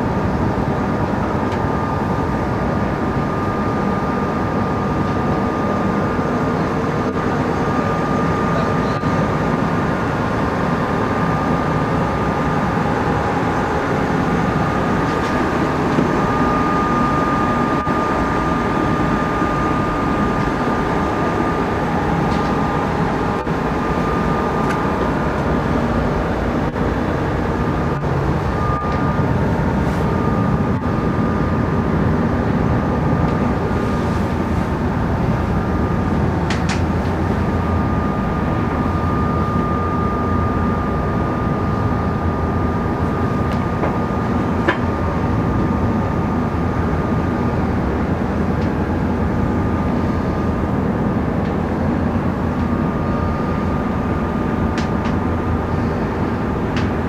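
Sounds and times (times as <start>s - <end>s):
boat engine rumble: 0.0s - 57.0s
thin steady whine: 0.0s - 57.0s.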